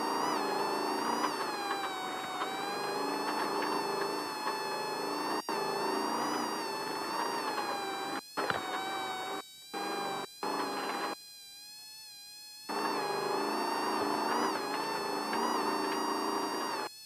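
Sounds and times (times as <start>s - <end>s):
high-pitched whine: 0.0s - 11.2s, 12.7s - 17.0s.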